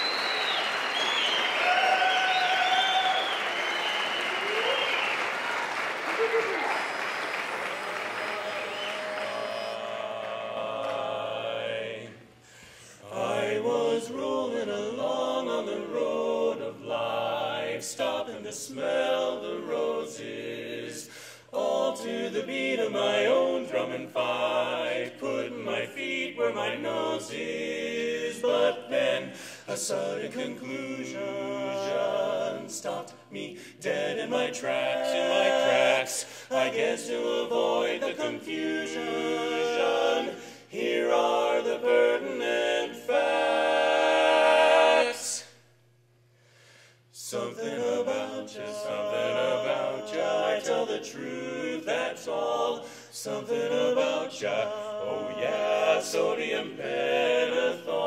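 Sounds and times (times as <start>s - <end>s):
men singing a cappella harmony: 8.2s - 45.6s, 47.1s - 58.0s.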